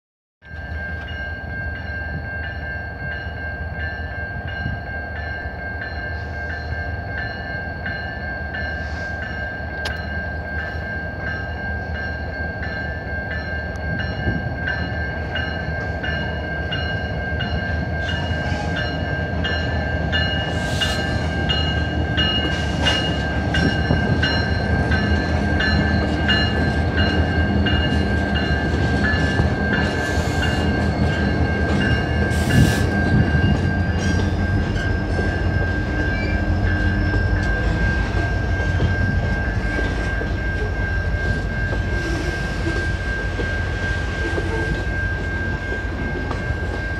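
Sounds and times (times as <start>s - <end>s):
railroad crossing bell ringing: 0.4s - 46.9s
diesel locomotives rumbling: 0.5s - 46.9s.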